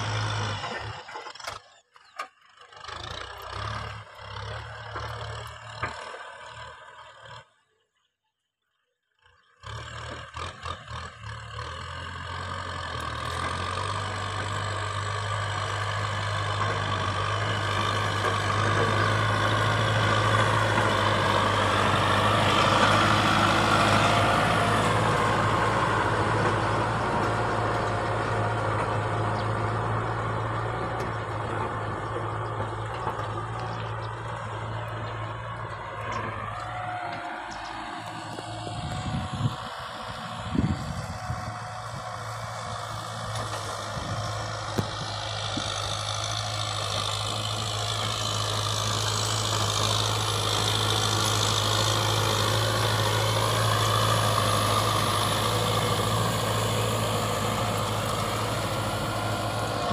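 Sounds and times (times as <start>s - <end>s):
tractor diesel engine running: 0.0s - 7.4s, 9.8s - 59.9s.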